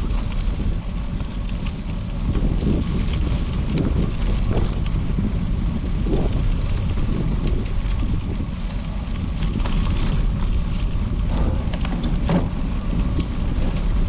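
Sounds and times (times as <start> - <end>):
tyres rolling on gravel: 0.0 - 14.0
wind buffeting microphone: 0.0 - 14.0.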